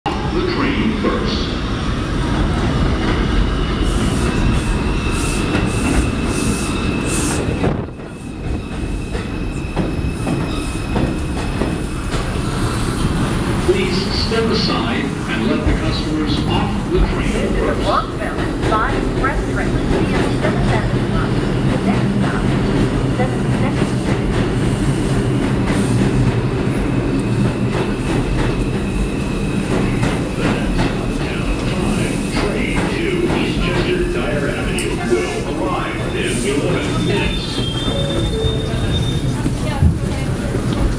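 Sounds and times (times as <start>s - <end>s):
train wheels rumbling on rails: 0.1s - 40.9s.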